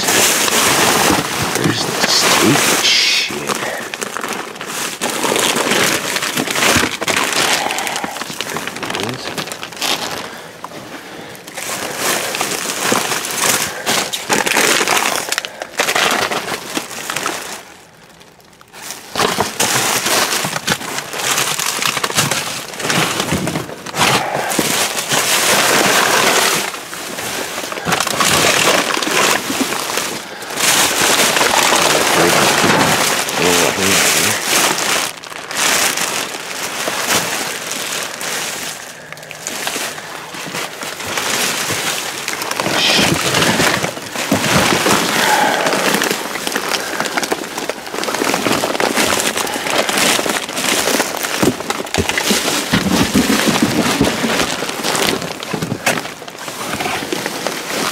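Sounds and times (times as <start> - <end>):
plastic trash bags rustling: 0.0 - 57.9.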